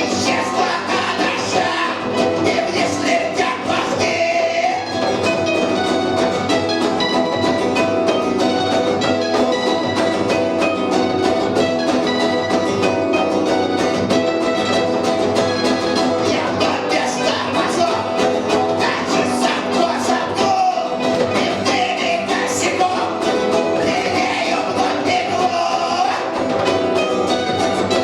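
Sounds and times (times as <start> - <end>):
punk rock band playing live: 0.0 - 28.0.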